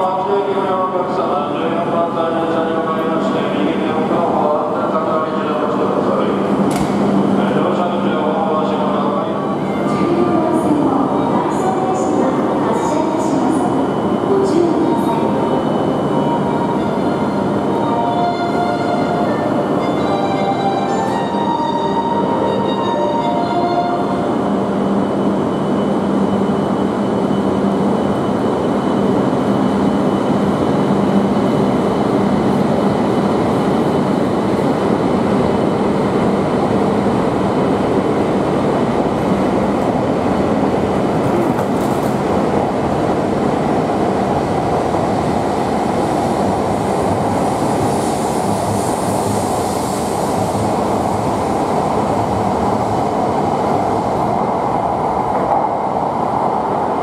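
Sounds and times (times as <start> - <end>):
high-speed train rushing: 0.0 - 57.0.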